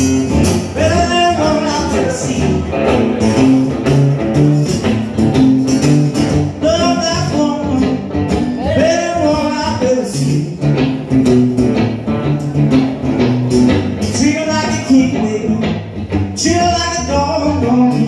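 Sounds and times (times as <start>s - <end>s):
acoustic guitar: 0.0s - 18.0s
electric guitar through amp: 0.0s - 18.0s
slide guitar: 0.0s - 18.0s.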